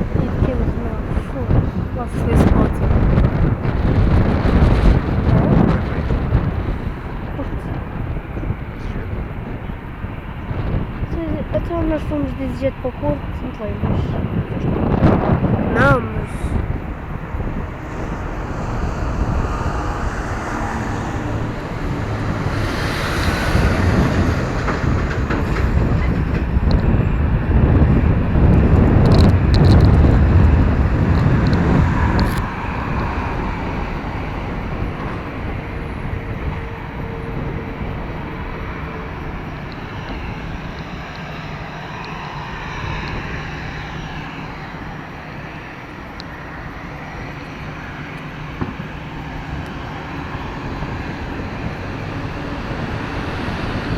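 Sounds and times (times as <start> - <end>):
aircraft engines rumbling: 0.0 - 53.9.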